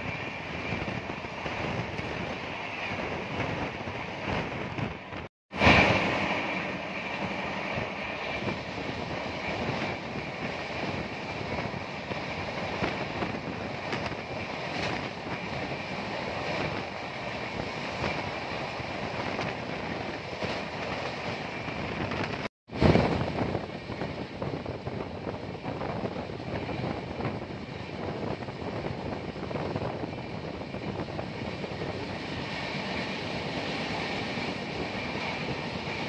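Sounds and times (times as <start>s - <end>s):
train wheels rushing on rails: 0.0s - 36.0s
wind on microphone: 0.0s - 36.0s.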